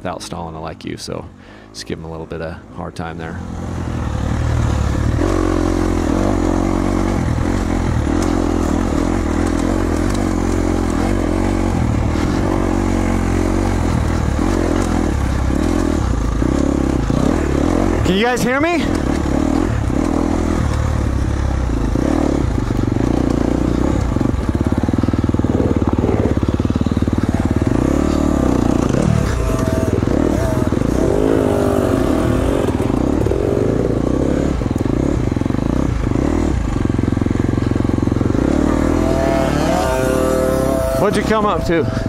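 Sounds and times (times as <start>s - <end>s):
dirt bike engine revving: 3.4s - 42.0s.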